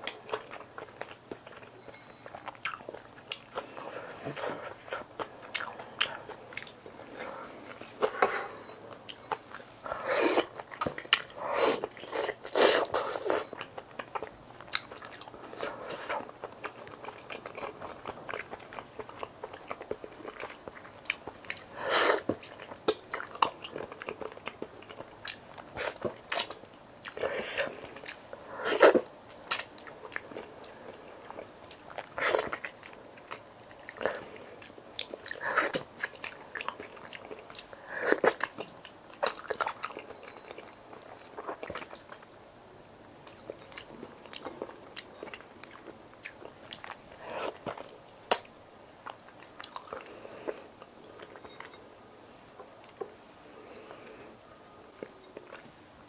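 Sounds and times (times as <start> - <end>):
person chewing: 0.0 - 42.3, 43.2 - 51.9, 52.8 - 55.7.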